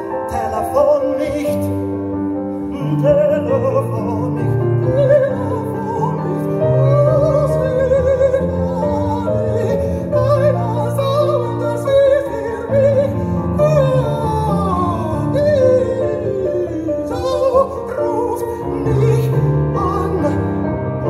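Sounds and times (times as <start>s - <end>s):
grand piano: 0.0s - 21.0s
man singing ballad: 0.0s - 21.0s.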